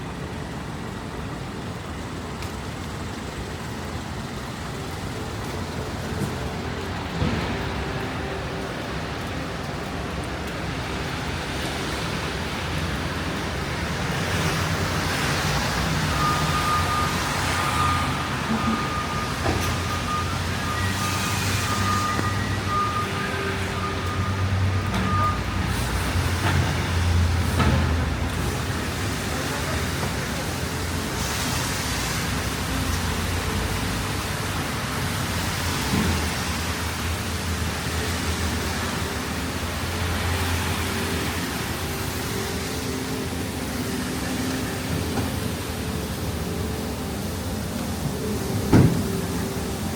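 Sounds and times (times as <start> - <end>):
city street traffic: 0.0 - 49.9.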